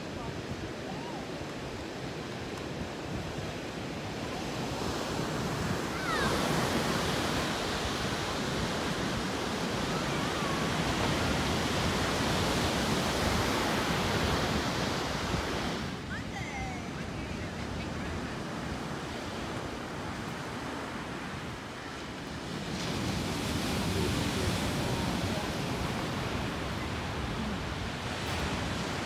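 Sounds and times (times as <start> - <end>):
surf breaking on a beach: 0.0 - 29.0.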